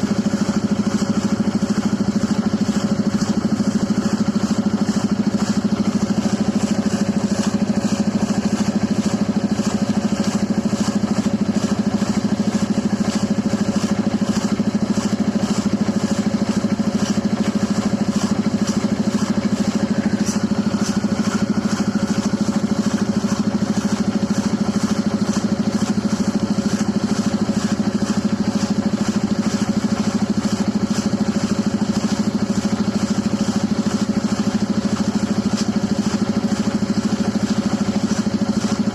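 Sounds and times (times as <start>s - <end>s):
air compressor engine droning: 0.0s - 38.9s.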